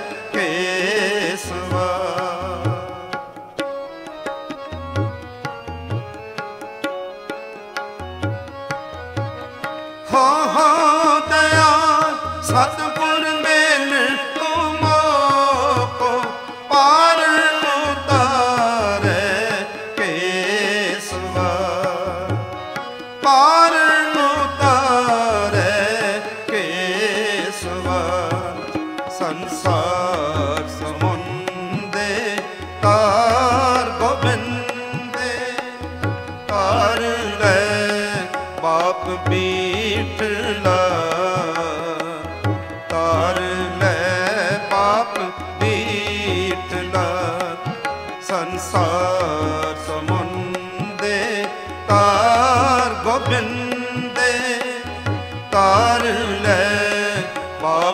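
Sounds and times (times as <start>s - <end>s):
harmonium chords: 0.0s - 57.9s
man singing: 0.0s - 57.9s.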